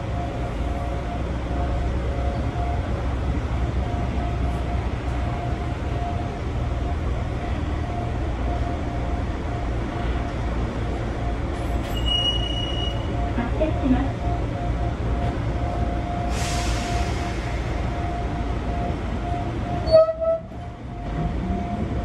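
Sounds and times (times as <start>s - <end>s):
wheels rumbling on track: 0.0s - 22.0s.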